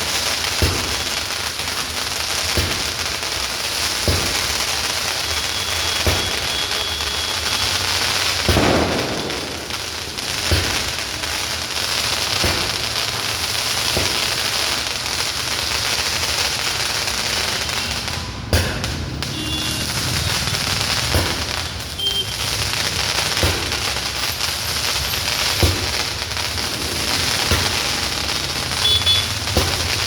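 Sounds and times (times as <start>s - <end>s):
fireworks bangs: 0.0s - 30.0s
fireworks crackling: 0.0s - 30.0s.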